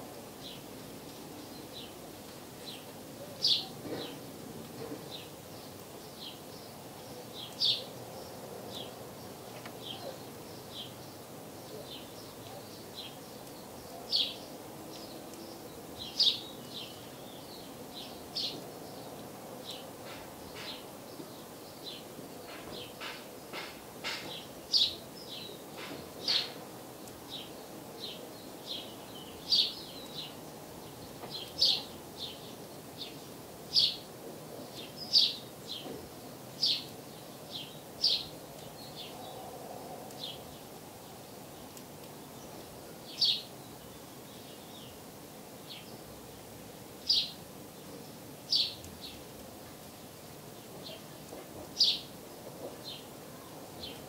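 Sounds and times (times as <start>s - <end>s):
low background noise: 0.0s - 54.0s
small songbird chirping: 2.6s - 4.2s, 5.0s - 52.2s.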